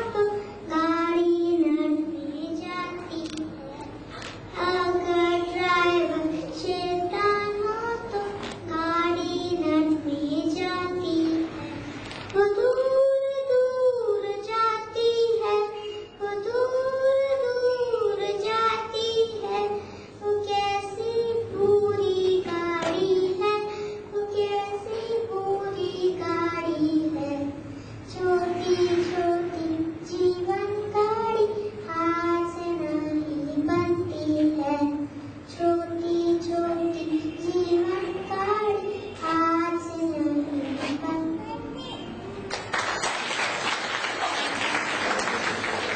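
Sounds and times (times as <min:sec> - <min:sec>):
girl singing into microphone: 0:00.0 - 0:42.4.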